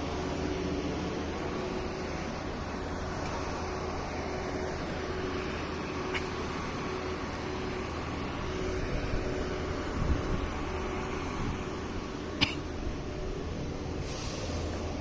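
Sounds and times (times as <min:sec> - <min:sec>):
road vehicle rumble: 0:00.0 - 0:15.0.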